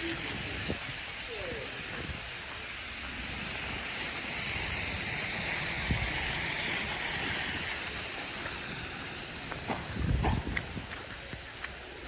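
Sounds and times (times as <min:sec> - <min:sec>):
tyre hiss of passing vehicle: 0:00.0 - 0:10.9
low traffic rumble: 0:00.0 - 0:12.0.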